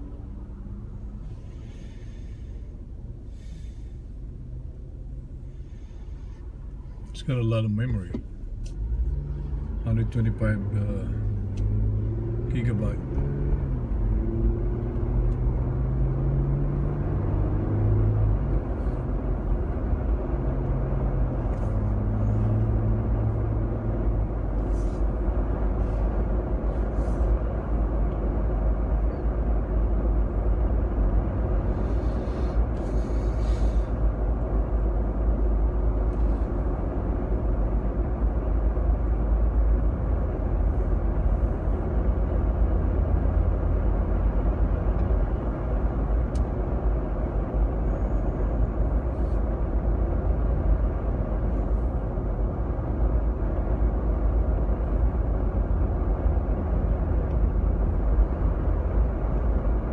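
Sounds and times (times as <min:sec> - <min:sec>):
car engine rumble: 0:00.0 - 0:59.9
tyre road noise: 0:00.0 - 0:59.9.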